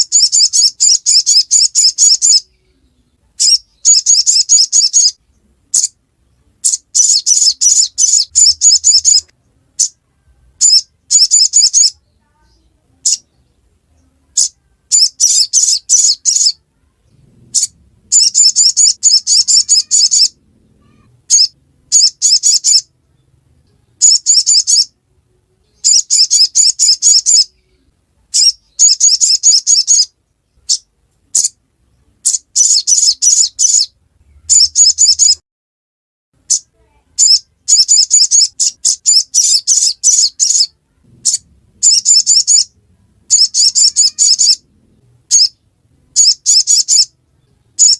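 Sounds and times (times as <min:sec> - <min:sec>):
bird high-pitched chatter: 0:00.0 - 0:06.0, 0:06.6 - 0:23.2, 0:24.0 - 0:25.0, 0:25.6 - 0:35.4, 0:36.4 - 0:47.9.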